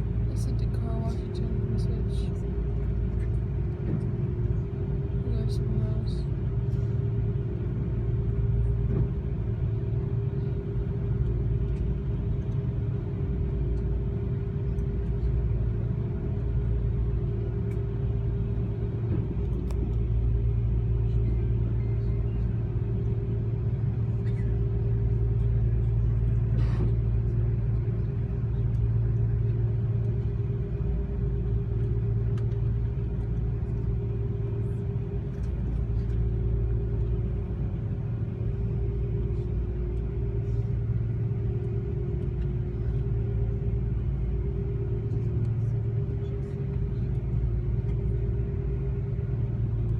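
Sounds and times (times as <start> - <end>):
aircraft cabin rumble and hum: 0.0 - 49.9.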